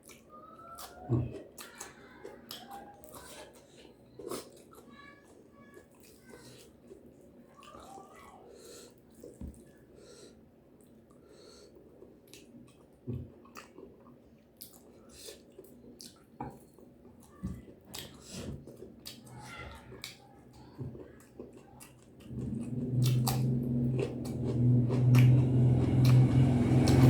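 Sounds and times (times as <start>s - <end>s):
chewing and mouth smacking: 0.0s - 8.0s, 11.9s - 27.0s.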